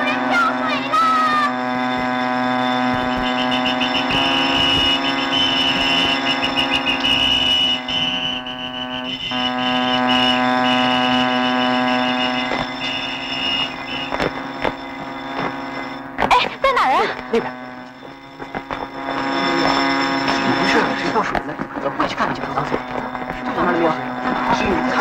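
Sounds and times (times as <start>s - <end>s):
pulsing high alarm ringing: 0.0s - 25.0s
ship's alarm droning tone: 0.0s - 25.0s.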